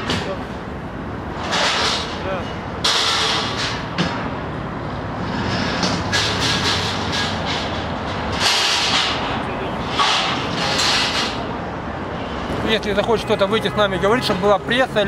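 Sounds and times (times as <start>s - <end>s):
traffic rumble: 0.0s - 15.0s
vehicles passing: 0.0s - 15.0s.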